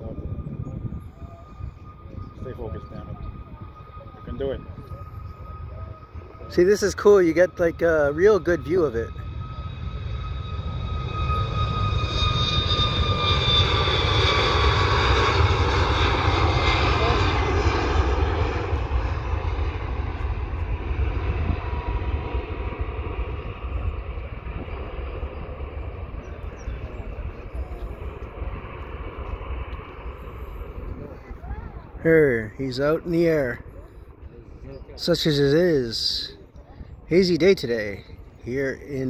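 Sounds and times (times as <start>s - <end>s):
jet engines at takeoff thrust: 0.0s - 39.0s.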